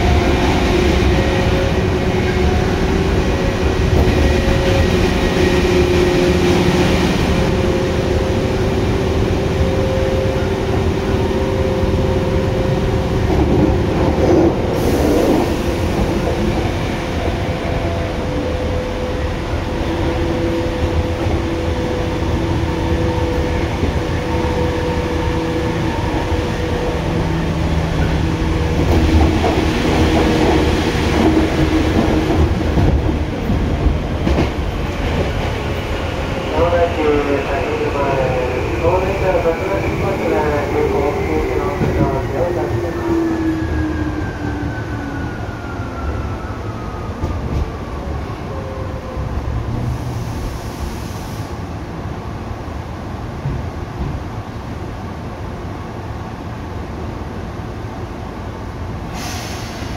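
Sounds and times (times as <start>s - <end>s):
wheels rumbling on track: 0.0s - 48.4s.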